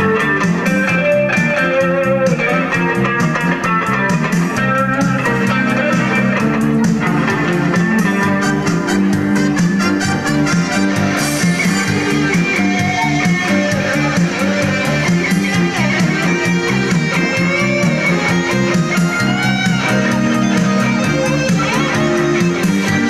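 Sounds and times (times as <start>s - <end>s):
bass line: 0.0s - 23.0s
electric guitar: 0.0s - 23.0s
live band playing: 0.0s - 23.0s.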